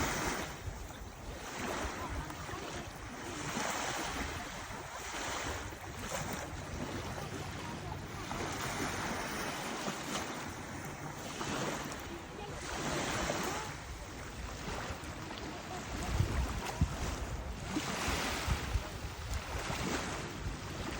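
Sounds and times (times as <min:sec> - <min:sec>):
sea waves washing onto shore: 0:00.0 - 0:20.9
wind rumbling on microphone: 0:00.0 - 0:20.9.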